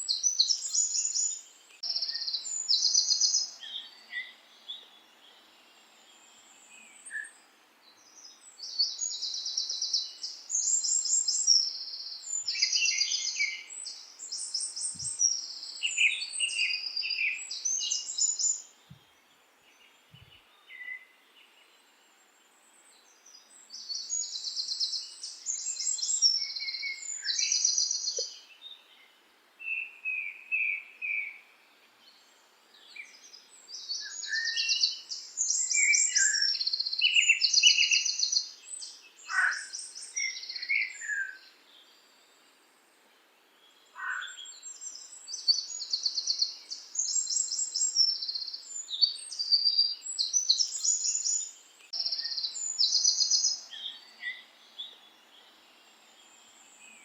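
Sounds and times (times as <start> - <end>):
songbirds trilling: 0.0 - 21.6, 23.0 - 29.1, 32.1 - 41.9, 43.5 - 57.0
faint background hiss: 0.0 - 57.0.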